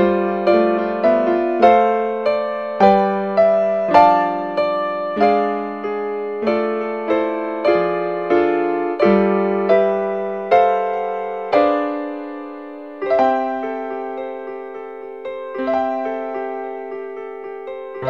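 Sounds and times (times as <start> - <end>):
slow solo piano chords: 0.0 - 18.0.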